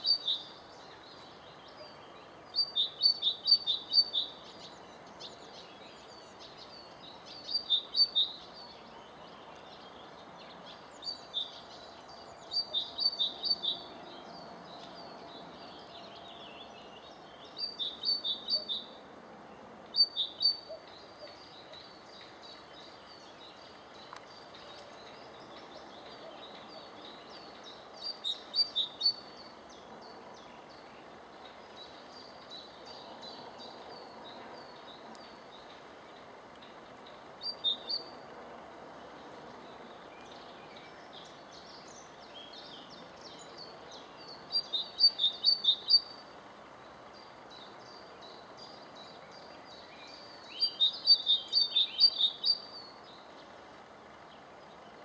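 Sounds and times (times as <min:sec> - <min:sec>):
light background noise: 0:00.0 - 0:55.0
songbird chirping: 0:00.0 - 0:55.0.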